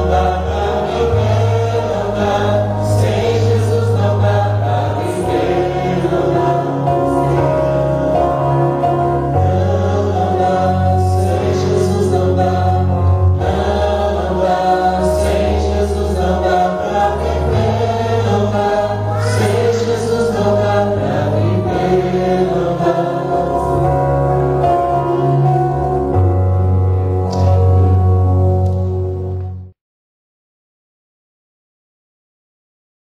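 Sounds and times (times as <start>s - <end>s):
choir singing gospel: 0.0s - 28.0s
sustained instrumental chords: 0.0s - 29.7s.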